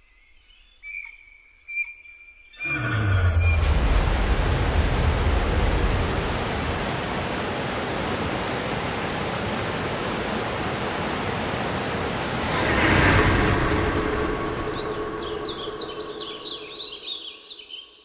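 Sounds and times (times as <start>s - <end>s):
waterfall rushing: 2.6s - 17.4s.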